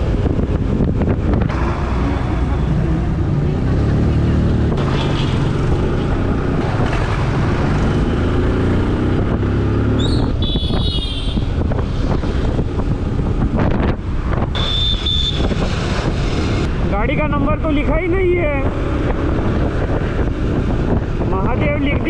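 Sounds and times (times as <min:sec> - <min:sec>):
wind noise on microphone: 0:00.0 - 0:03.5, 0:04.4 - 0:22.0.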